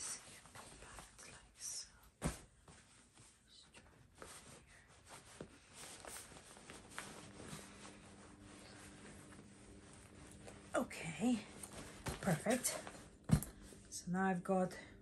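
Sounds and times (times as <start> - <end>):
clothes rustling: 0.0 - 14.0.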